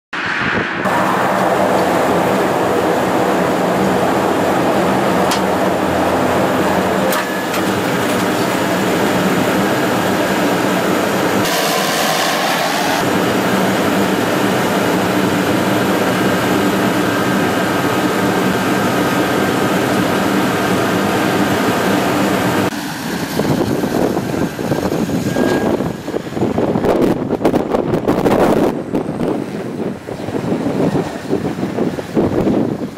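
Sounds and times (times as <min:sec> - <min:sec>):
propeller plane engine running: 0:00.2 - 0:32.9.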